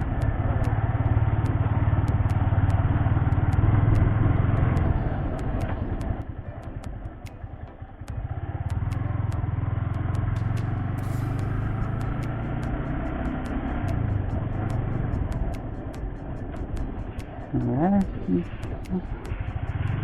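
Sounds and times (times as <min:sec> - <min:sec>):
motorcycle engine rumble: 0:00.0 - 0:20.0
road noise: 0:00.0 - 0:20.0.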